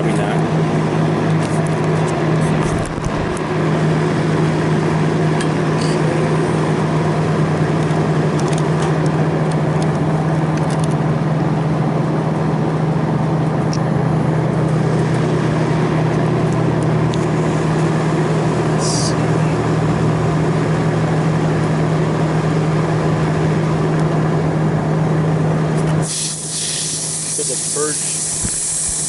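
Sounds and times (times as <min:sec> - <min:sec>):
refrigeration machinery humming: 0:00.0 - 0:29.0.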